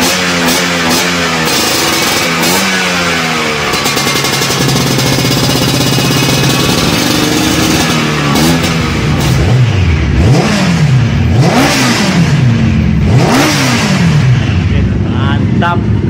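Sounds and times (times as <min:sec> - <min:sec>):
scooter engine idling and revving: 0:00.0 - 0:16.0.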